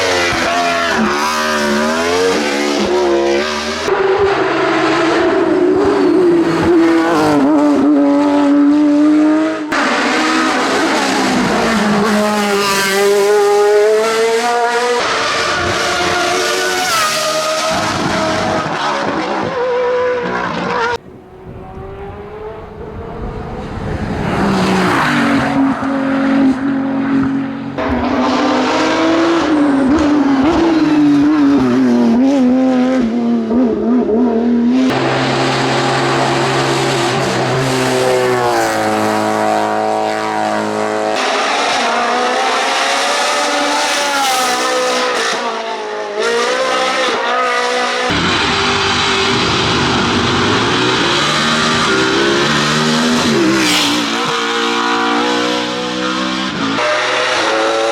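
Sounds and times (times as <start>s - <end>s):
racing car engines revving: 0.0s - 57.9s.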